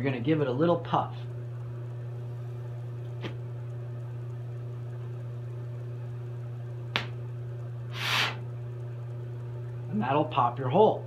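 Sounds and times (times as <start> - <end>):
torch burning with low hum: 0.0 - 11.0.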